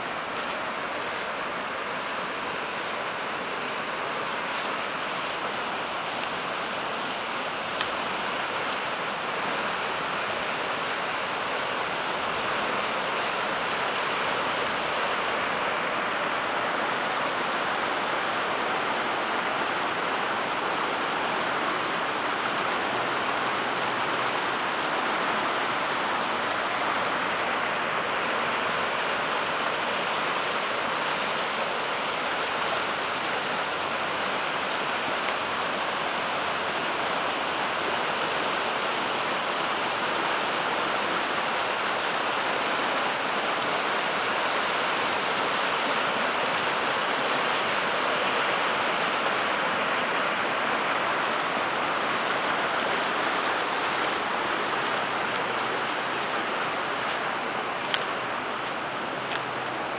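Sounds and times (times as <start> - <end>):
floodwater rushing over rocks: 0.0 - 59.9.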